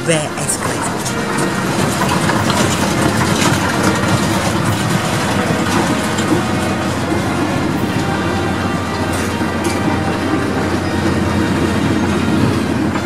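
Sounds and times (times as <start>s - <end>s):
escalator rumble and clatter: 0.0s - 13.0s.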